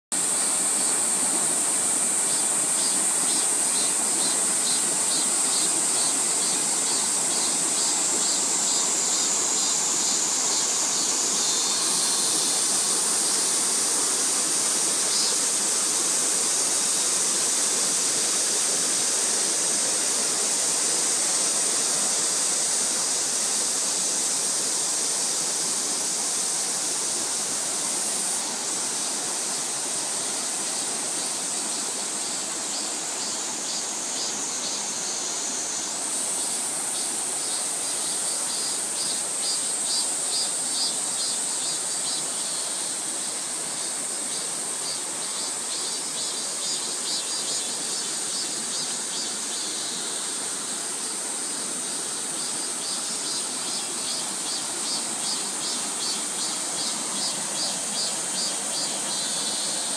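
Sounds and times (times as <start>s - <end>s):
high insect chorus: 0.1s - 59.9s
stream rushing over boulders: 0.1s - 59.9s.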